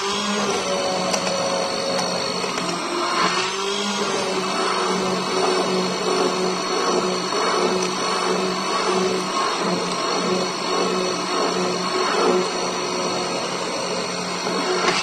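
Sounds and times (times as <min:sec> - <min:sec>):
immersion blender motor hum: 0:00.0 - 0:15.0.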